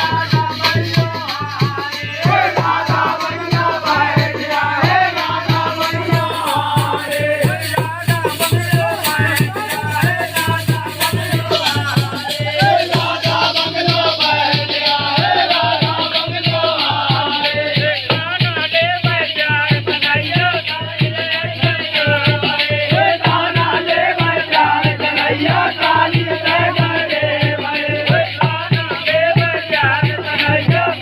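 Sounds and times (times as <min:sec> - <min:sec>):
drum beat: 0:00.0 - 0:31.0
jingling rattling percussion: 0:00.0 - 0:31.0
man singing loudly: 0:00.0 - 0:31.0.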